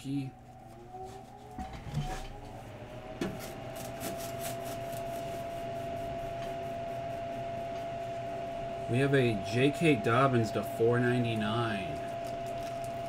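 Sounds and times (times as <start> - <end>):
blower motor whirring: 0.0 - 13.0.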